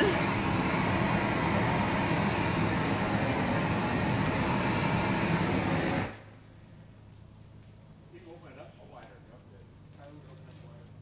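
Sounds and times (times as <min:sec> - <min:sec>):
flamethrower torch roaring: 0:00.0 - 0:11.0.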